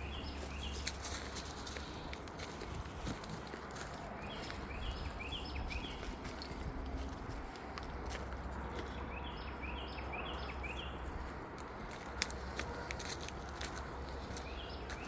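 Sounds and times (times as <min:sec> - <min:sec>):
footsteps: 0:00.0 - 0:09.0, 0:10.3 - 0:15.0
dog paws walking: 0:00.0 - 0:15.0.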